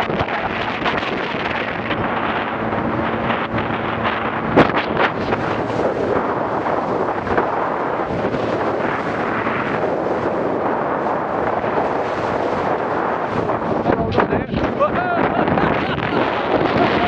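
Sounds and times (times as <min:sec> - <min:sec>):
rush of water and spray: 0:00.0 - 0:17.0
wind buffeting microphone: 0:00.0 - 0:17.0.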